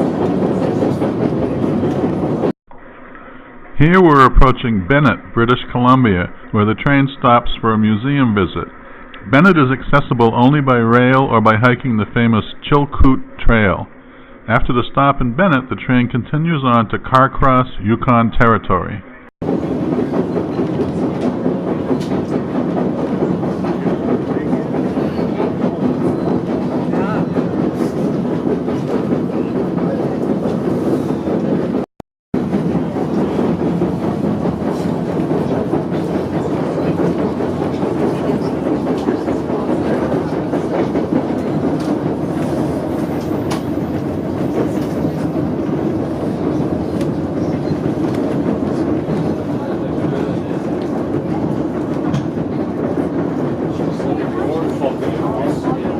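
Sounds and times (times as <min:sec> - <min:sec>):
passenger train rumbling on track: 0:00.0 - 0:17.9, 0:19.4 - 0:55.9.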